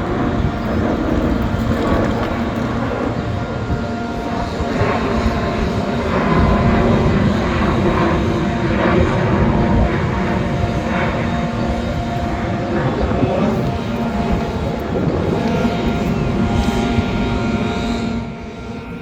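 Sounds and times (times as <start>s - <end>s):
small aircraft engine drone: 0.0s - 19.0s
wind rush: 0.0s - 19.0s.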